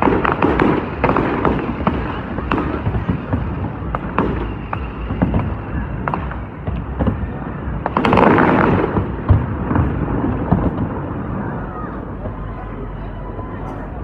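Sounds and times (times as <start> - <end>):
fireworks bangs and pops: 0.0 - 11.3
fireworks crackling burst: 0.0 - 12.5.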